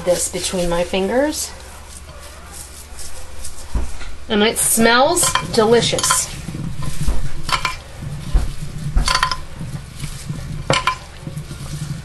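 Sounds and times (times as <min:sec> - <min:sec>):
tomatoes rolling against glass: 0:00.0 - 0:12.0.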